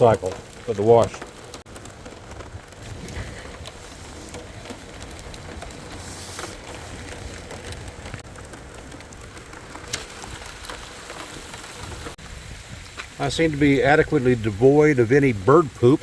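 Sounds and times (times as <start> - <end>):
water spraying onto truck: 0.0 - 8.2, 9.3 - 16.0.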